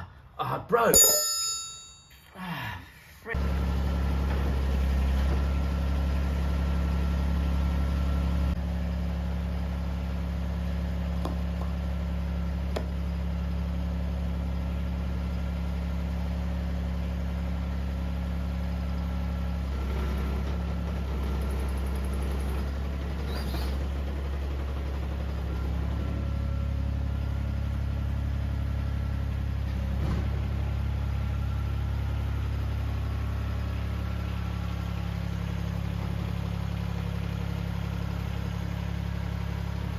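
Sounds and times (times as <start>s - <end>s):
excavator engine idling: 3.0s - 39.9s.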